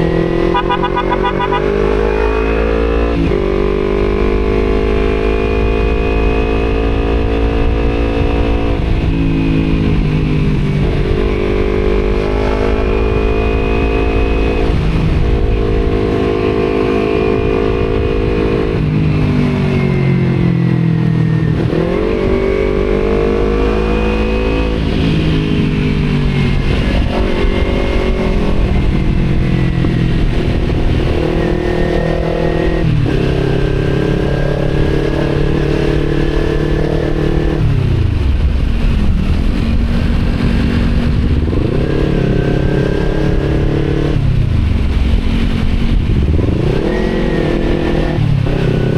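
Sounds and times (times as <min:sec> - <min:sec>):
motorcycle engine revving: 0:00.0 - 0:48.9
wind on microphone: 0:00.0 - 0:48.9.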